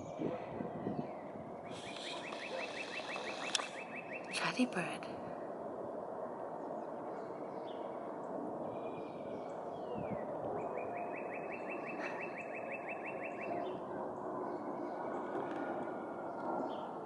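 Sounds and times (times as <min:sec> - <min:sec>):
songbird singing: 0:00.0 - 0:05.0, 0:06.6 - 0:15.6
outdoor background noise: 0:00.0 - 0:17.0.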